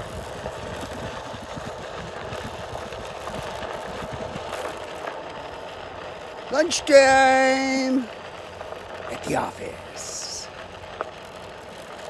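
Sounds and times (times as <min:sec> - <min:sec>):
faint steady hum: 0:02.2 - 0:12.0.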